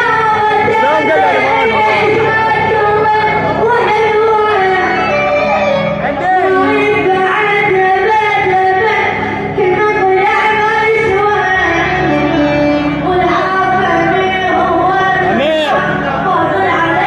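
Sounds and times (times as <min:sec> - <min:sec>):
low musical accompaniment: 0:00.0 - 0:17.0.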